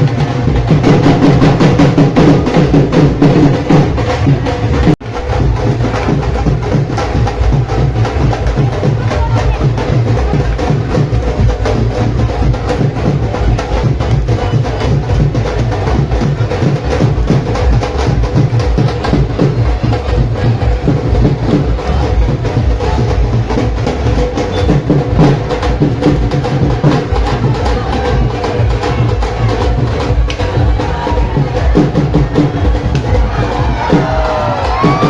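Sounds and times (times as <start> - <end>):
music with fast dense drumming: 0.0 - 35.0.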